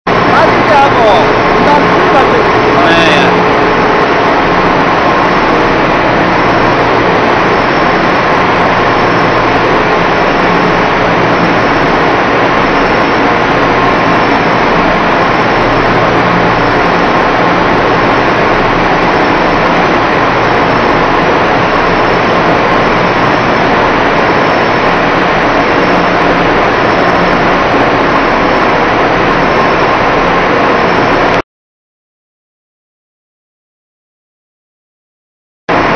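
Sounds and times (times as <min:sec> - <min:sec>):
loud machinery hum: 0:00.1 - 0:31.4.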